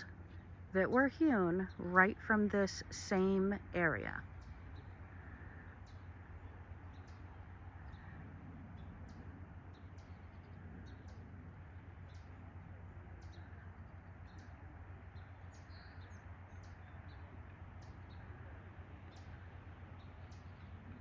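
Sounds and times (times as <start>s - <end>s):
low outdoor rumble: 0.0s - 21.0s
faint bird chirps: 3.0s - 21.0s.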